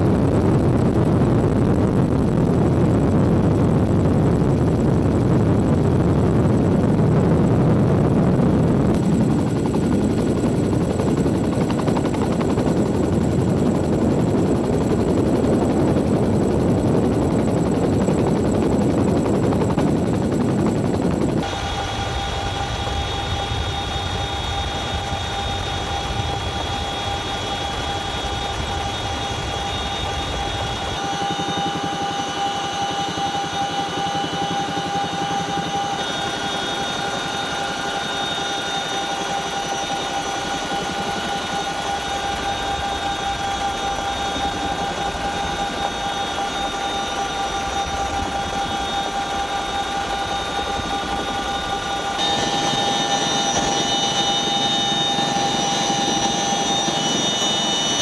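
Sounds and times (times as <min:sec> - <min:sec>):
helicopter rotor noise: 0:00.0 - 0:58.0
high engine whine: 0:00.0 - 0:58.0.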